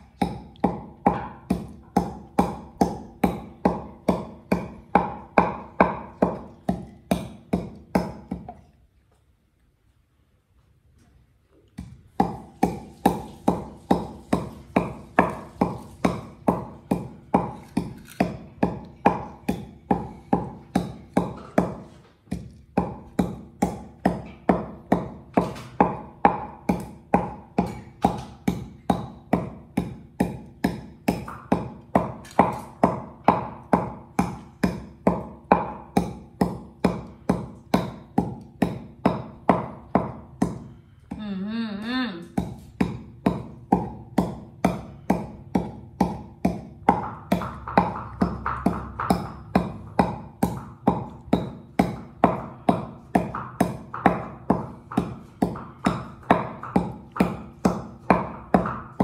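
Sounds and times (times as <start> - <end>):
pestle pounding in wooden mortar: 0.0 - 8.7, 11.6 - 41.3, 42.2 - 59.0.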